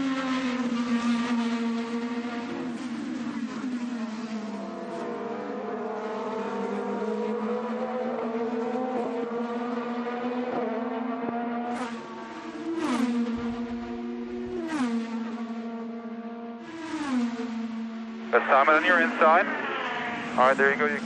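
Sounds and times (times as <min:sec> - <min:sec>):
race car engine at speed: 0:00.0 - 0:21.0.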